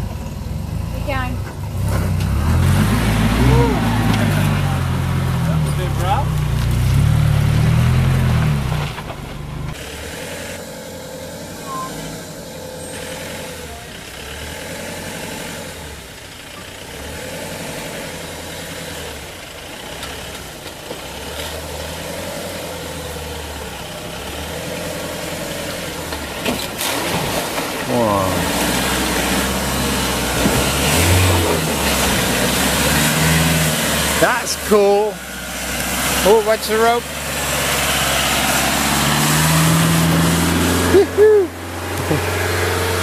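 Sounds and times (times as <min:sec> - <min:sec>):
diesel truck engine crawling: 0:00.0 - 0:43.0
van engine running: 0:00.0 - 0:43.0.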